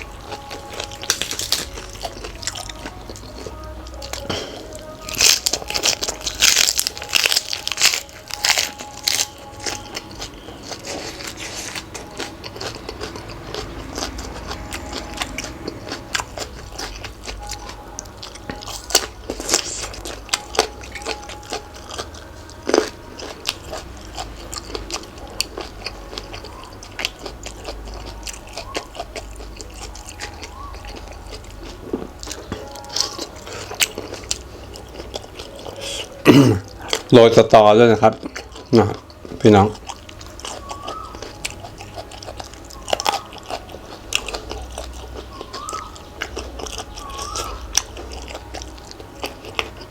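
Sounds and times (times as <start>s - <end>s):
chewing crunchy food: 0.0s - 49.9s.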